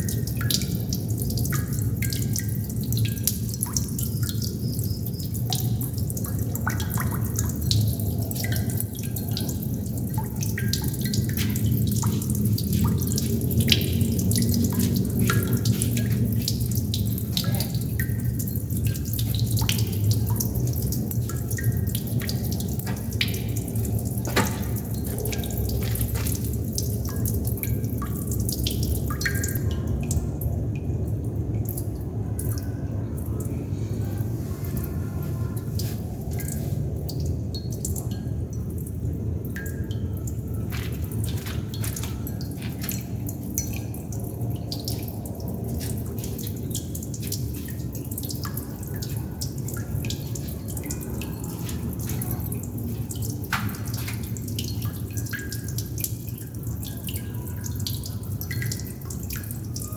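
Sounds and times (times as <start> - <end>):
water droplets dripping: 0.0 - 59.9.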